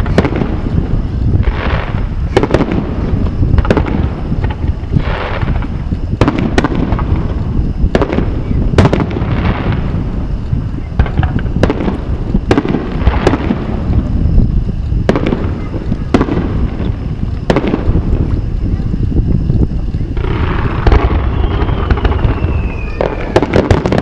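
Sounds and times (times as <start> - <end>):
continuous low rumble: 0.0 - 24.0
firework shells bursting: 0.0 - 24.0.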